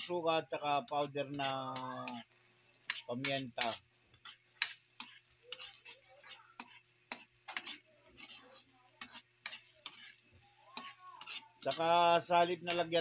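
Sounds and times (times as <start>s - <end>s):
metal spatula scraping a wok: 0.0s - 13.0s
vegetables stir-frying: 0.0s - 13.0s.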